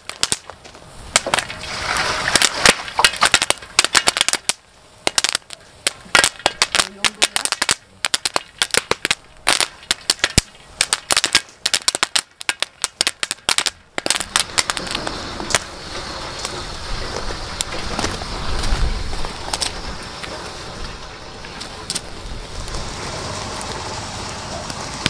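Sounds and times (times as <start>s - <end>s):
popcorn popping: 0.0s - 20.4s
steady hiss: 0.0s - 25.0s.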